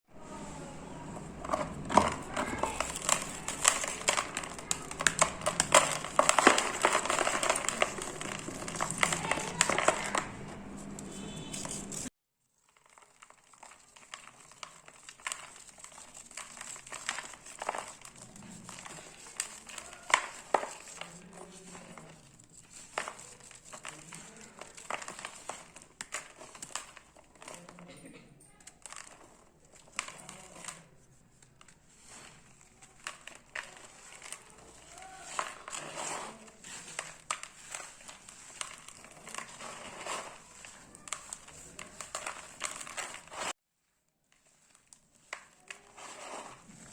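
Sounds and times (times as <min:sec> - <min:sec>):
dry cement crumbling by hand: 0:00.8 - 0:12.1, 0:12.7 - 0:43.6.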